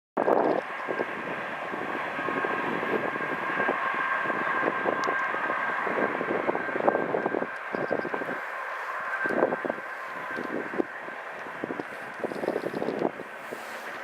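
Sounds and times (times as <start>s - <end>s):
high whine: 0.2s - 14.0s
train rumbling and rattling: 0.2s - 14.0s.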